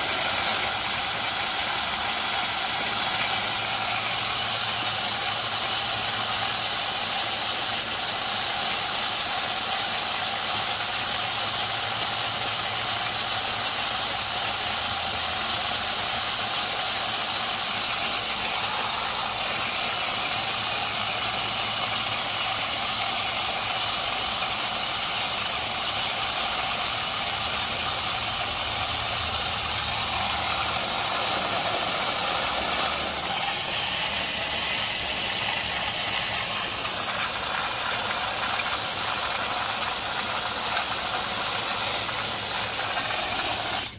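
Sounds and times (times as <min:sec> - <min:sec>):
compressed air and water hissing: 0:00.0 - 0:43.9.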